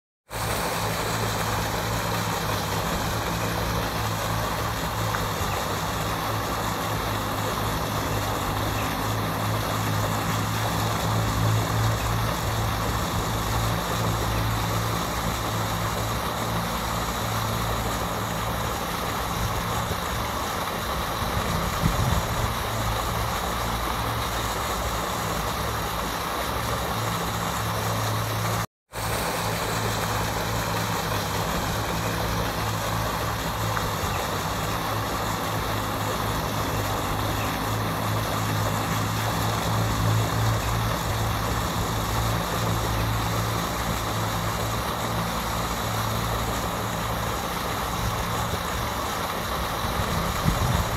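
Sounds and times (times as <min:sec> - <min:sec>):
fountain water splashing: 0:00.3 - 0:50.9
low motor hum: 0:00.3 - 0:50.9.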